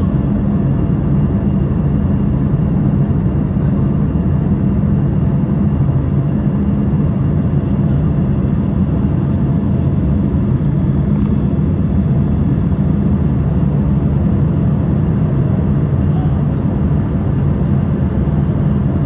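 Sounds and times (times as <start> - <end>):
airliner engines rumbling in flight: 0.0 - 19.0.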